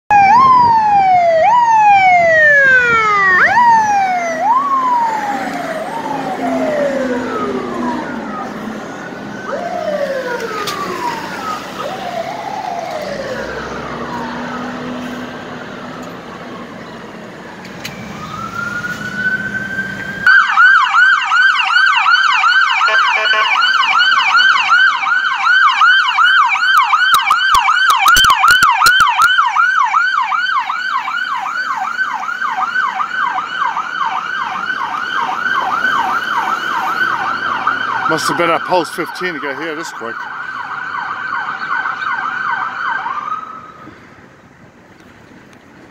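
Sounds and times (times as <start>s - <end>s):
ambulance yelp siren: 0.1s - 44.0s
fire engine siren: 0.1s - 44.0s.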